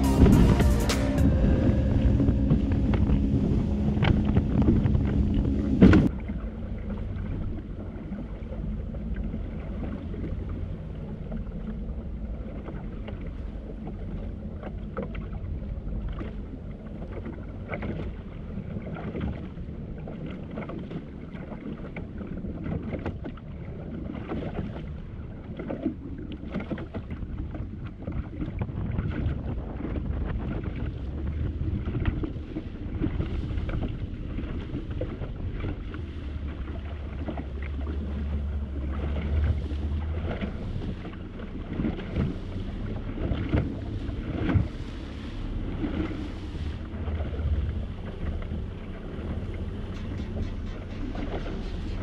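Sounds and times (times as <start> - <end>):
water slapping: 0.0 - 52.0
wind buffeting microphone: 0.0 - 52.0.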